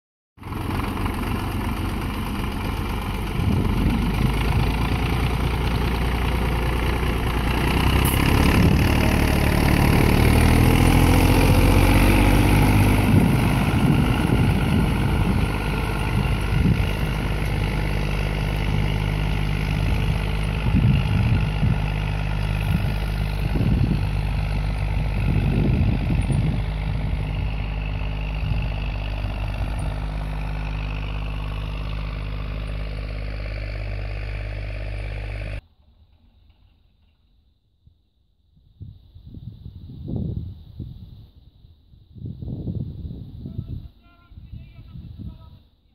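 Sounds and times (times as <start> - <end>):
tractor diesel engine running: 0.4 - 37.5.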